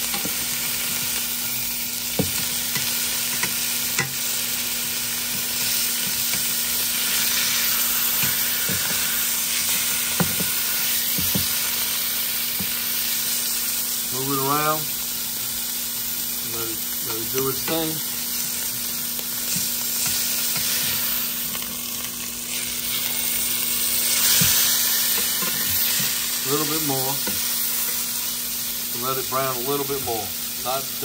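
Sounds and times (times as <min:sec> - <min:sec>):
meat sizzling in hot fat: 0:00.0 - 0:31.0.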